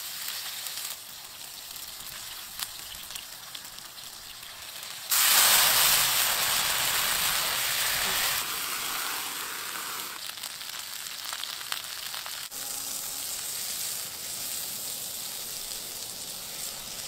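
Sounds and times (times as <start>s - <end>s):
butter sizzling in a pan: 0.0s - 17.0s
fish searing with crackles: 0.0s - 17.0s.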